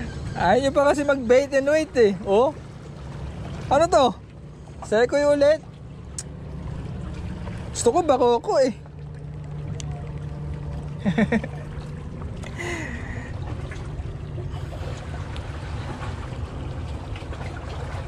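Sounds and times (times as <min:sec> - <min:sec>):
wind and sea rumbling: 0:00.0 - 0:18.0.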